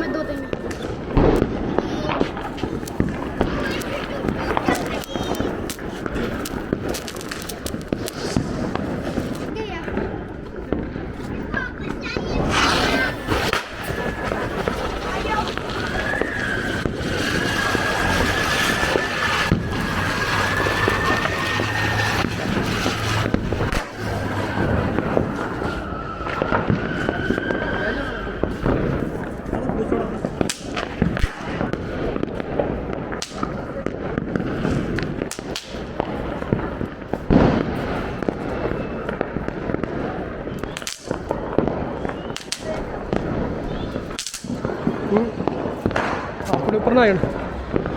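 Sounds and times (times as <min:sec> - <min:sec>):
firecracker hissing rush: 0:00.0 - 0:47.9
sharp firecracker cracks: 0:00.6 - 0:09.9, 0:11.8 - 0:27.5, 0:28.5 - 0:47.9.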